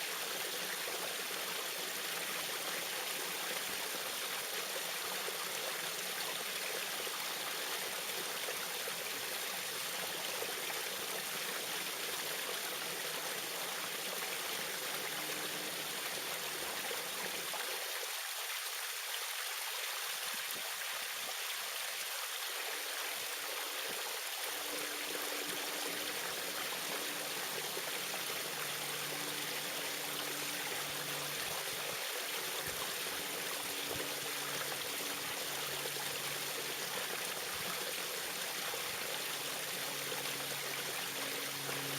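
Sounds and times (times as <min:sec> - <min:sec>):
small waterfall rushing: 0:00.0 - 0:41.9.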